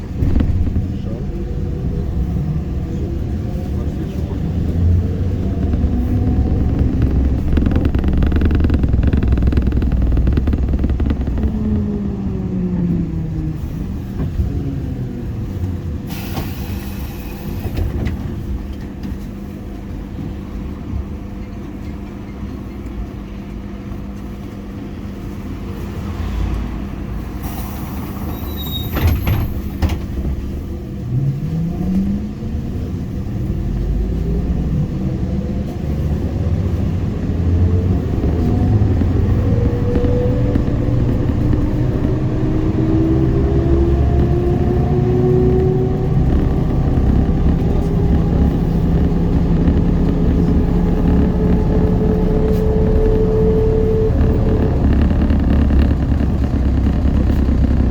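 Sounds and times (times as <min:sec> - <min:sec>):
trolleybus motor whine: 0:00.0 - 0:57.9.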